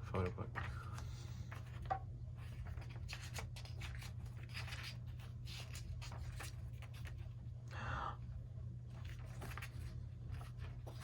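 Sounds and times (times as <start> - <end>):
paper pages rustling: 0.1 - 7.3, 8.9 - 11.0.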